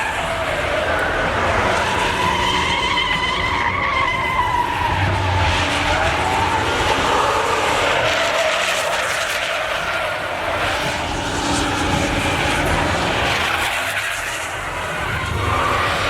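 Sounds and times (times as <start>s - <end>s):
truck engine at high revs: 0.0s - 16.0s
tyres skidding on pavement: 0.0s - 16.0s.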